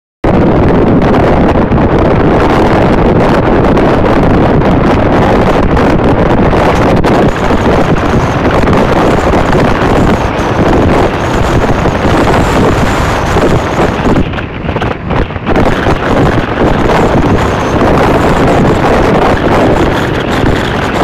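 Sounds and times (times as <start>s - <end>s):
wind buffeting the microphone: 0.2s - 21.0s
train running on the track: 0.6s - 21.0s.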